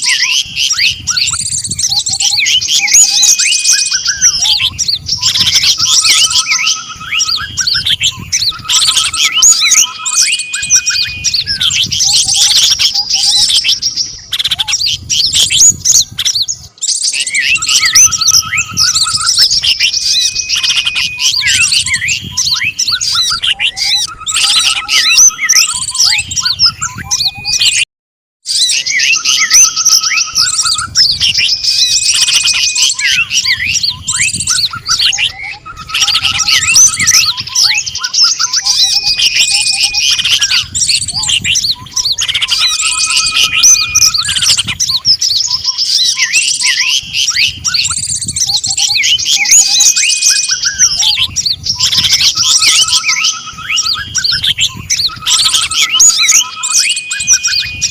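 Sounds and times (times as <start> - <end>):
songbirds chirping and trilling: 0.0 - 27.9, 28.5 - 57.9.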